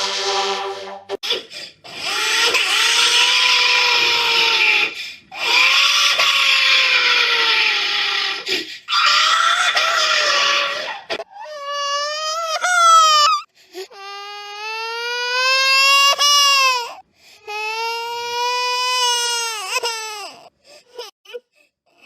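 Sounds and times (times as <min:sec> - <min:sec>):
infant crying: 0:01.9 - 0:22.0.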